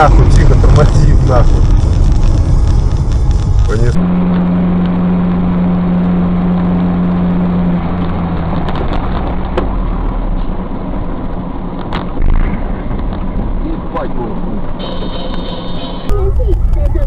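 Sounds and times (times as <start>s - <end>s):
car engine and road noise: 0.0s - 17.0s
strong low hum: 0.0s - 17.0s.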